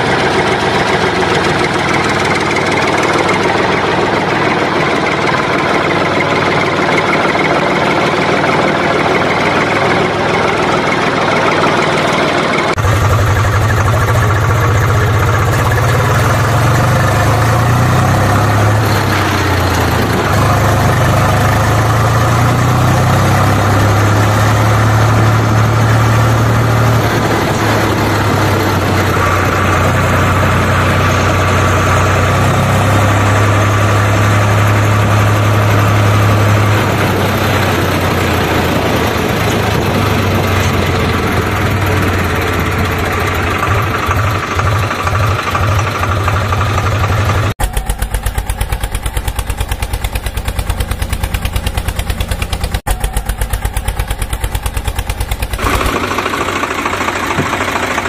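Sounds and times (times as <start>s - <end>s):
tractor engine droning: 0.0s - 58.0s.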